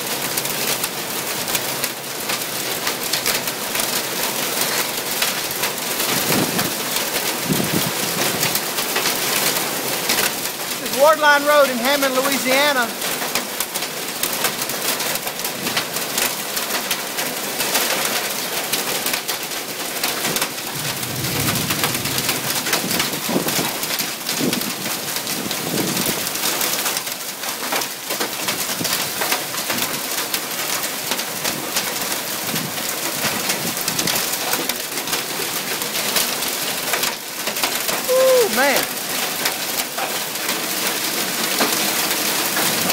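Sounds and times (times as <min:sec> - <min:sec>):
hail and rain on a tin roof: 0:00.0 - 0:42.9.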